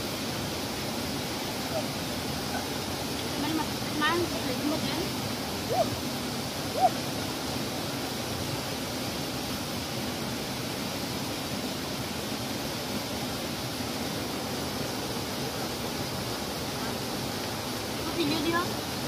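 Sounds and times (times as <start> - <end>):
river running over rocks: 0.0 - 19.0.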